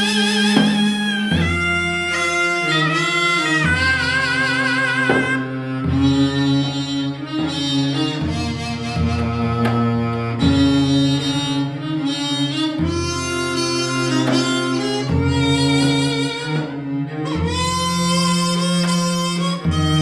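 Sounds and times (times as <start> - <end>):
traditional quartet music: 0.0 - 20.0.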